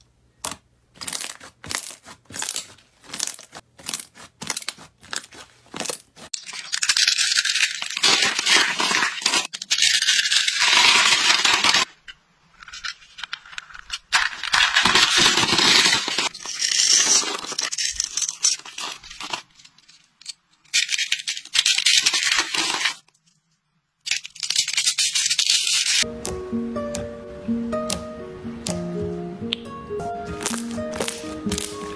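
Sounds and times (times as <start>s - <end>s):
brittle shapes crunching: 0.4s - 11.9s, 12.7s - 23.2s, 24.0s - 26.1s, 30.3s - 31.9s.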